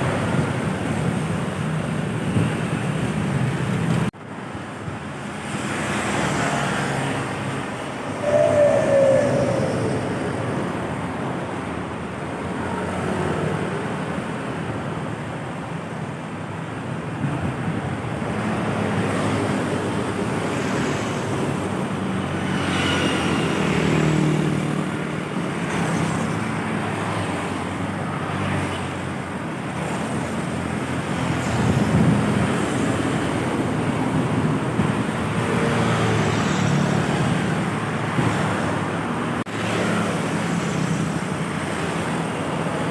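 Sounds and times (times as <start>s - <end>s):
heavy vehicle engines: 0.0s - 42.9s
tyres passing on road: 0.0s - 42.9s.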